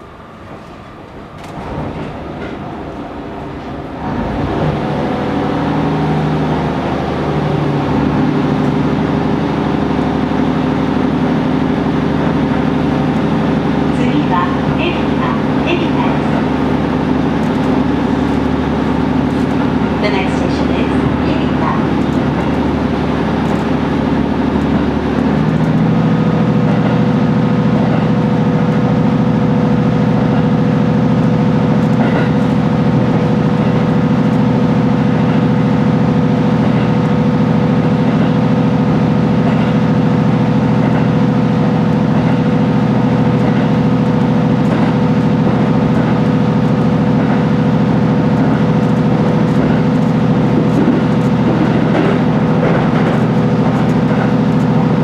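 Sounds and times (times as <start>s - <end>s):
railcar engine hum: 0.0s - 55.0s.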